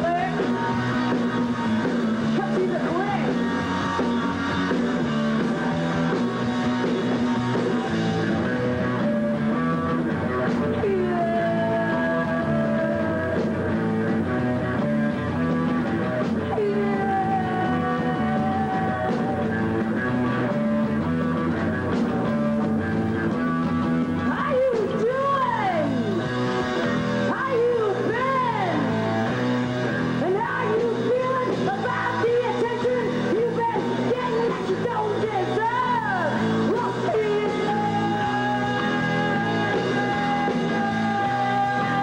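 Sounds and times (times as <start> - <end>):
bass guitar: 0.0 - 42.0
distorted electric guitar: 0.0 - 42.0
drum kit: 0.0 - 42.0.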